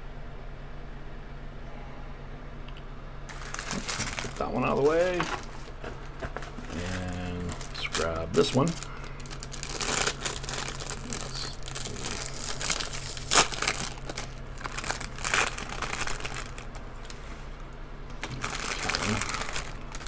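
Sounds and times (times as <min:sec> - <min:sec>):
plastic bag crinkling: 0:03.3 - 0:20.0.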